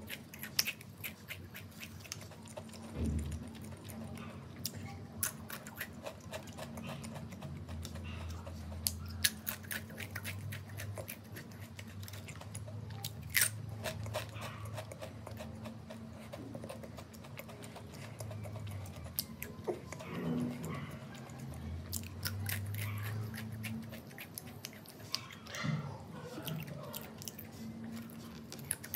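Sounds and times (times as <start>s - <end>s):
crunching and chewing crisps: 0.0s - 28.9s.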